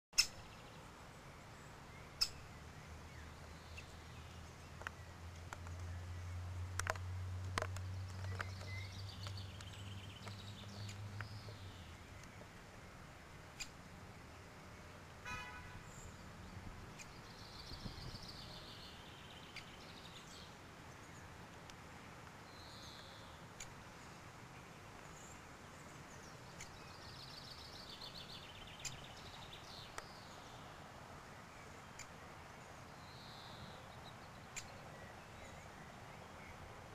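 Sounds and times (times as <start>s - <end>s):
birds singing: 0.2s - 36.9s.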